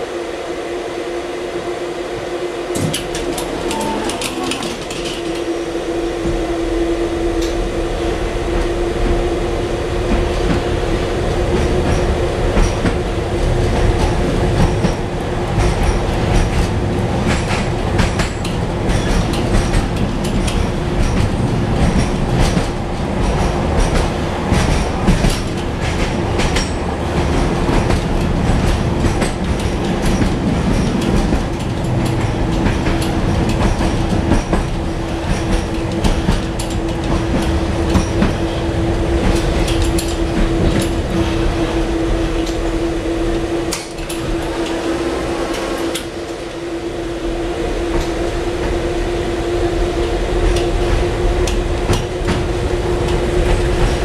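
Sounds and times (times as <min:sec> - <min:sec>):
tram wheels rumbling on rail: 0:00.0 - 0:54.0.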